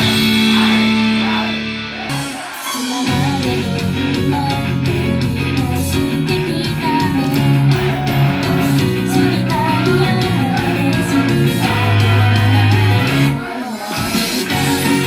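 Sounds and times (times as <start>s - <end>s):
live pop song with band: 0.0s - 15.0s
person singing: 0.0s - 15.0s.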